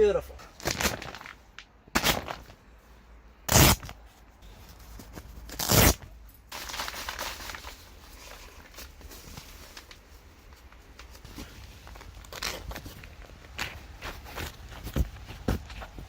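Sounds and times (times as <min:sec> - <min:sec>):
rustling and crunching: 0:00.4 - 0:02.8, 0:03.5 - 0:16.0.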